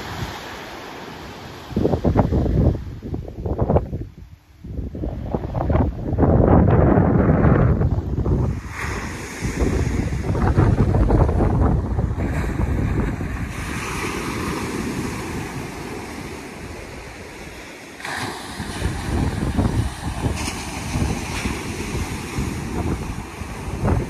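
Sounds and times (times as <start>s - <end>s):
surf breaking on beach: 0.0s - 3.9s, 5.1s - 24.0s
wind gusting against microphone: 0.0s - 24.0s.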